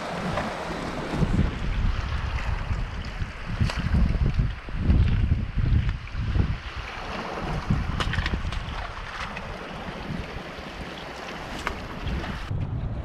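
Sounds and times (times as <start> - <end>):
heavy surf: 0.0 - 13.0
wind buffeting microphone: 0.0 - 13.0.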